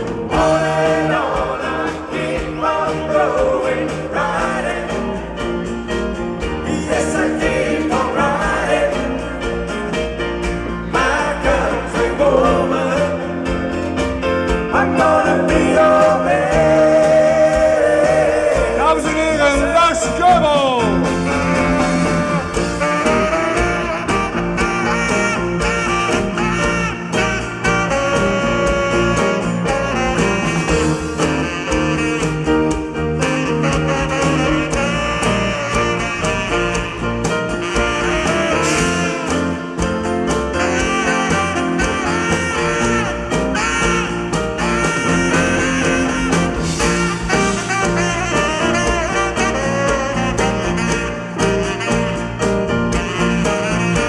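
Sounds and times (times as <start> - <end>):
live band playing instrumental: 0.0 - 54.0.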